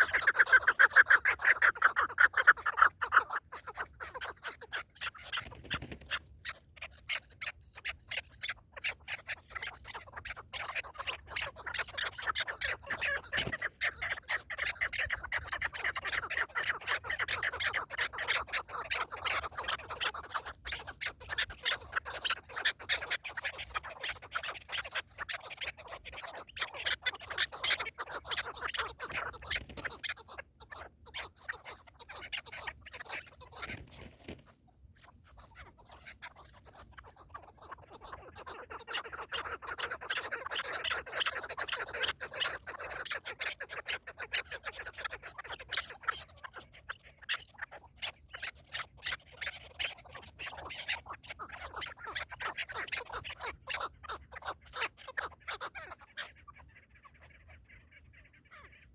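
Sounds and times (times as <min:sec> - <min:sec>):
partridges cackling: 0:00.0 - 0:58.9.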